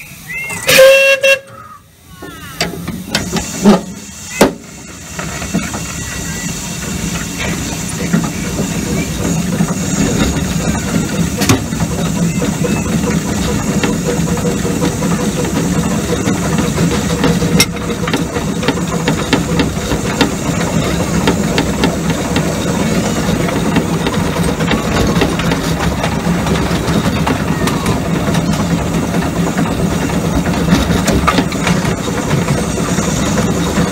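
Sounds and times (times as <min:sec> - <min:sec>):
miniature steam locomotive rumbling: 0:00.0 - 0:33.9
wheels clicking on track: 0:00.0 - 0:33.9.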